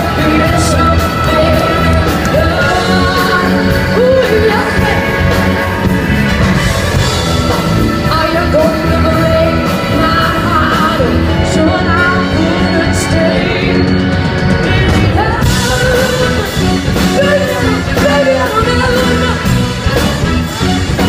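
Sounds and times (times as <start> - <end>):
live rock band playing: 0.0 - 21.0
person singing: 0.0 - 21.0.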